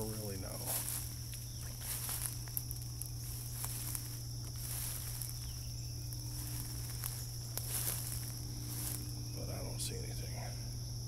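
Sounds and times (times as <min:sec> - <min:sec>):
footsteps through undergrowth: 0:00.0 - 0:10.0
leaves and twigs crackling: 0:00.0 - 0:10.1
high insect drone: 0:00.0 - 0:11.0
low hum: 0:00.0 - 0:11.0.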